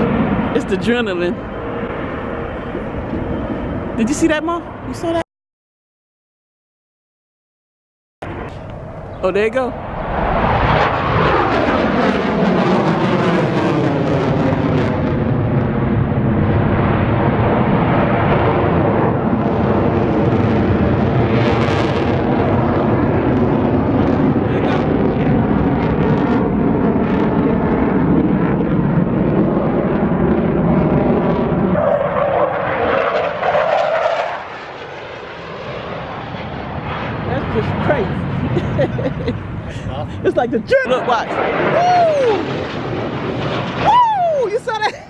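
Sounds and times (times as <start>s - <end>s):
airplane flying by: 0.0s - 5.2s, 8.2s - 45.0s.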